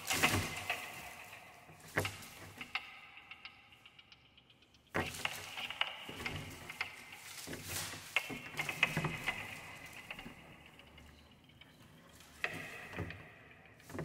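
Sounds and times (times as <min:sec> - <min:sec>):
ribbons rustling: 0:00.0 - 0:04.0, 0:04.7 - 0:14.0
wooden frames ticking: 0:00.0 - 0:14.0.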